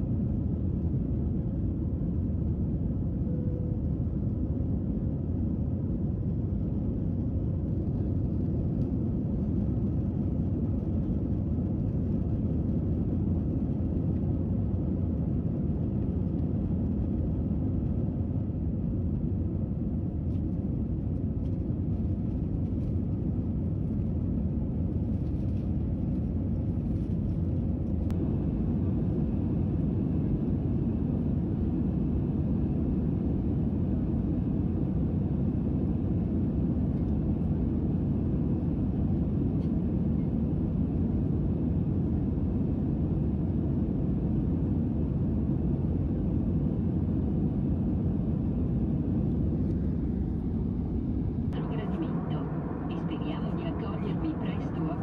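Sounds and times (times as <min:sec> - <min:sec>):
jet engines rumbling: 0:04.6 - 0:55.0.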